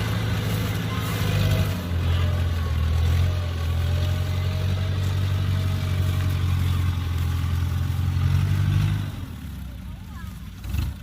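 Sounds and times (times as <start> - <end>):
combine harvester diesel engine: 0.0 - 11.0.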